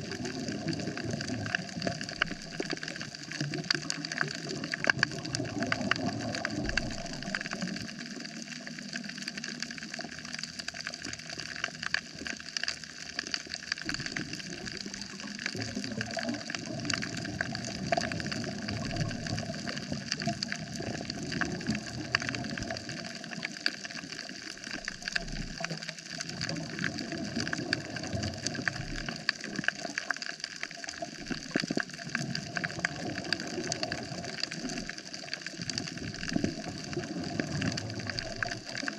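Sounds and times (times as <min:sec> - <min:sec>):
crackle of tiny clicks: 0:00.0 - 0:38.9
underwater rushing surges: 0:00.0 - 0:38.9.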